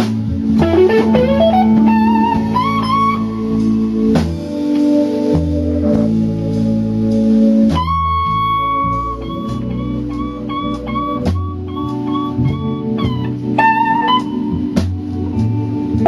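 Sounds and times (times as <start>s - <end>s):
blues guitar music: 0.0s - 16.0s.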